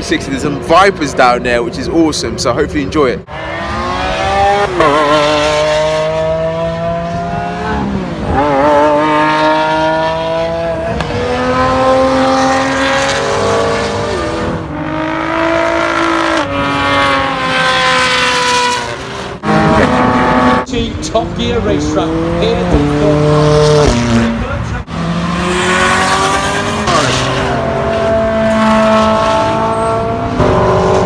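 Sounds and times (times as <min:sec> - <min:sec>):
engine note climbing with upshifts: 0:00.0 - 0:31.0
supercar engines revving: 0:00.0 - 0:31.0.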